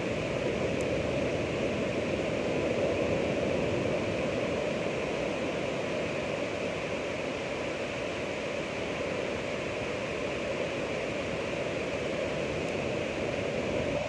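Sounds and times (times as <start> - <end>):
ocean surf washing: 0.0 - 14.0.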